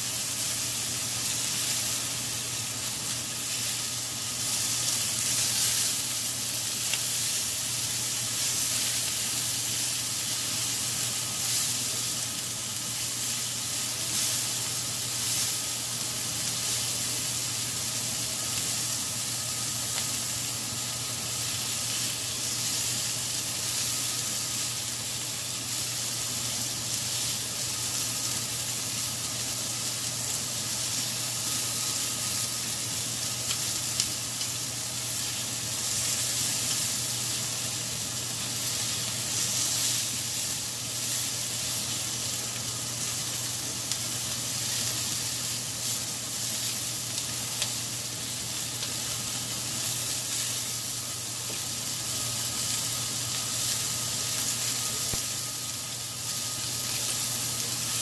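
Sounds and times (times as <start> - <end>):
food sizzling on griddle: 0.0 - 58.0.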